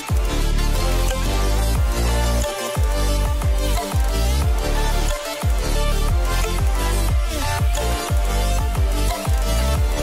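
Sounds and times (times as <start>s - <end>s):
electronic music: 0.0s - 10.0s
deep bass drum beat: 0.1s - 10.0s.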